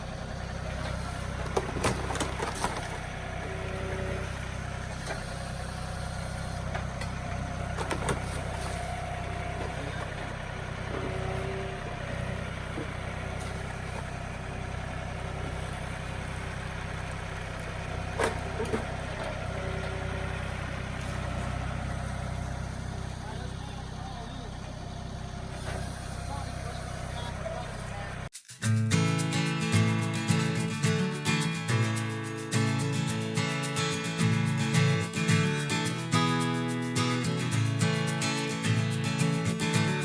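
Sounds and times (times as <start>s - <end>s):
diesel tractor engine running: 0.0s - 28.3s, 28.9s - 40.0s.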